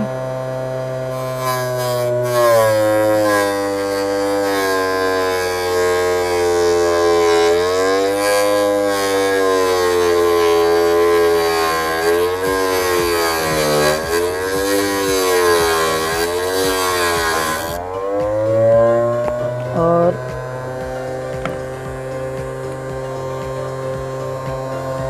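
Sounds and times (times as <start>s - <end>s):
grinder motor humming: 0.0s - 25.0s.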